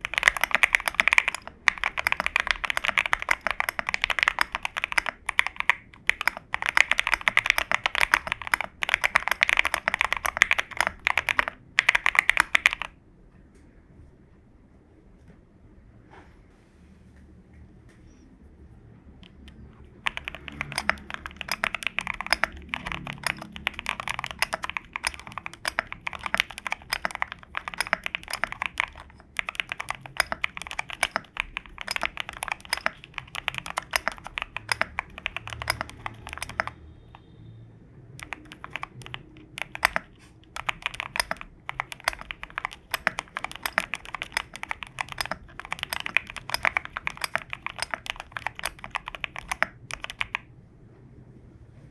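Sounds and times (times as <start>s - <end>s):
mechanical keyboard typing: 0.0s - 13.0s, 19.2s - 37.3s, 38.2s - 50.5s.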